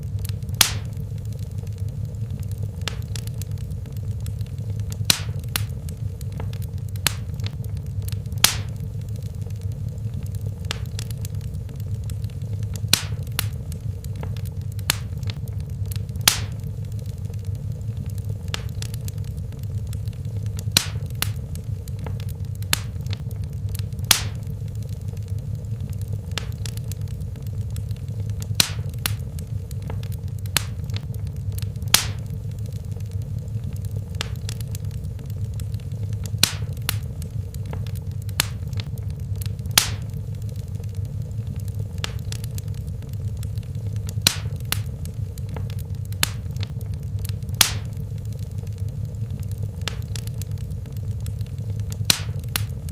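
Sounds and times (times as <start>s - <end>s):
fireplace fire crackling: 0.0s - 52.9s.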